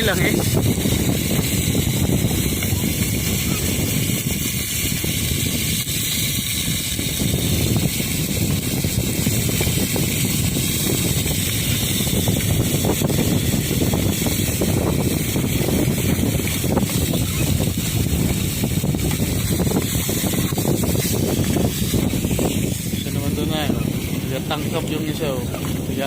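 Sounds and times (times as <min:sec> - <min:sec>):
choppy water washing: 0:00.0 - 0:26.0
wind buffeting microphone: 0:00.0 - 0:26.0.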